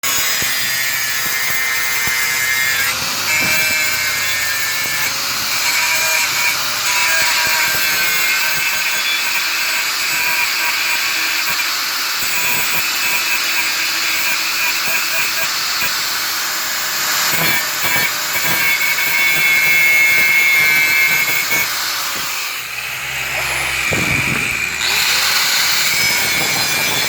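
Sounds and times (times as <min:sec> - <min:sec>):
power tool running: 0:00.0 - 0:27.0.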